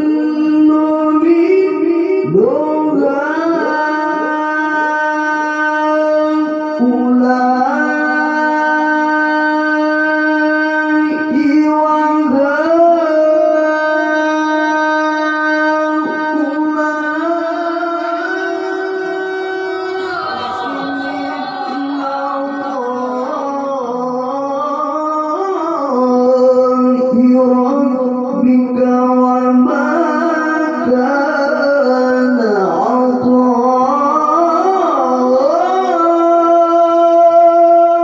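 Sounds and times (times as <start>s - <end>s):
man chanting into a microphone: 0.0s - 38.0s.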